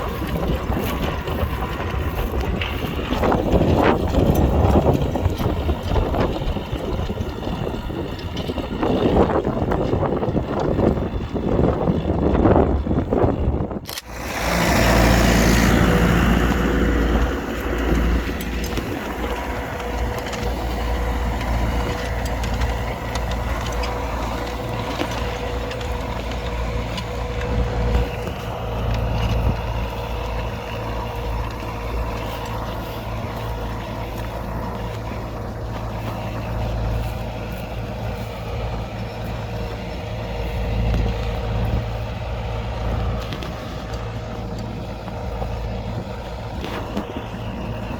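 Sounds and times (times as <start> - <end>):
tractor diesel engine droning: 0.0 - 47.9.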